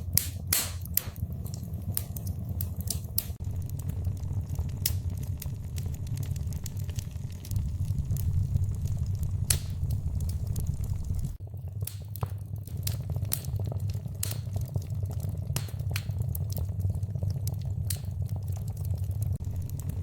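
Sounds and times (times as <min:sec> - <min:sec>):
fireplace fire crackling: 0:00.0 - 0:20.0
low rumble of flames: 0:00.0 - 0:20.0
sharp pops and snaps: 0:00.0 - 0:20.0.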